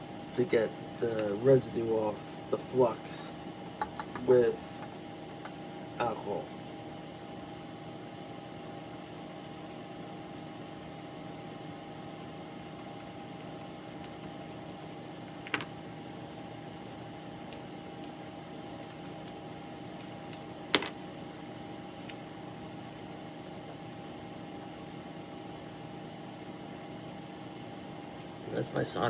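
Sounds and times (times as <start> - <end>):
electric fan humming: 0.0 - 29.0.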